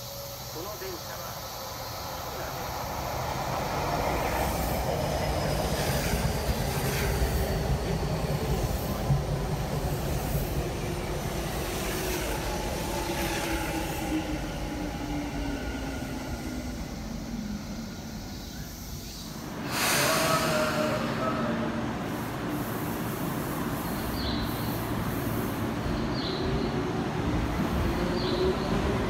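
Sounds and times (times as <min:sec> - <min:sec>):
train wheel and rail rumble: 0:00.0 - 0:29.0.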